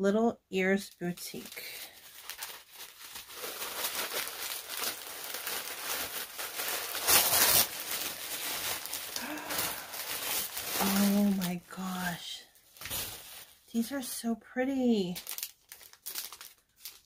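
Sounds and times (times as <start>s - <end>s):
packaging rustling and crinkling: 1.2s - 14.0s, 15.0s - 17.0s.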